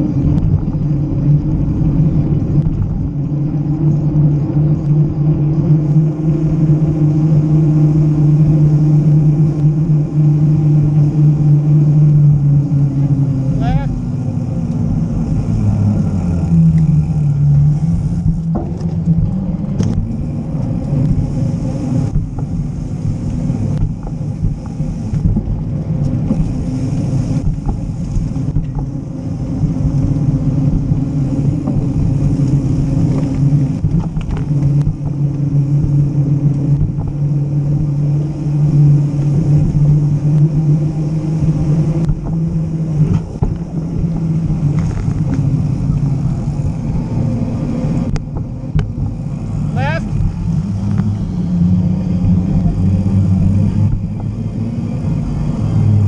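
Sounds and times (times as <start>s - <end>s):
bike tyres humming on pavement: 0.0s - 56.0s
wind rumbling on microphone: 0.0s - 56.0s.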